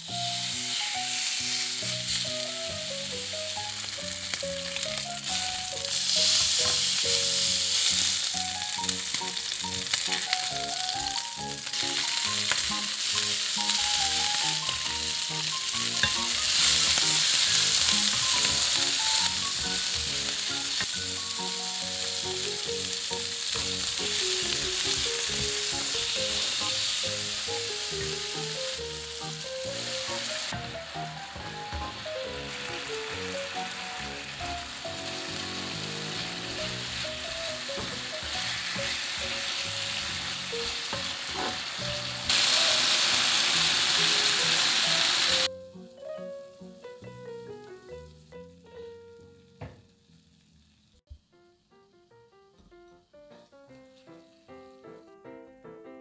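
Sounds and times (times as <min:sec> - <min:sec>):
light melodic background tune: 0:00.0 - 0:42.9, 0:44.7 - 0:49.7
utensils stirring meat: 0:00.0 - 0:45.5
meat sizzling in a frying pan: 0:00.0 - 0:45.8.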